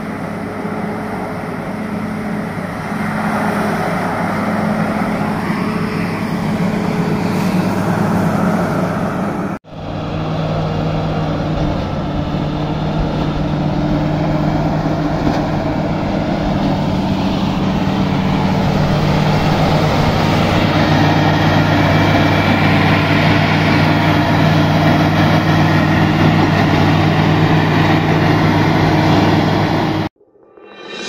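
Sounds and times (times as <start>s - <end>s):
diesel dozer engine running: 0.0s - 30.1s.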